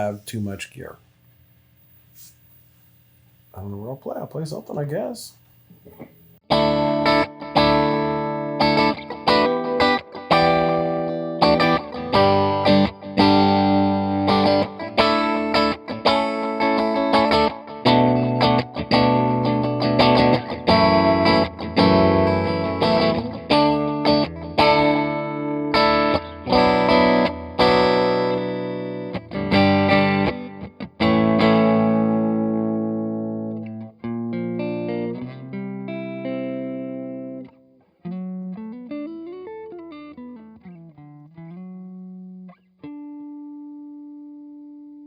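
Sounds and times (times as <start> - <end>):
electric guitar single notes: 5.8 - 44.8
electric guitar strummed chords: 5.9 - 45.0.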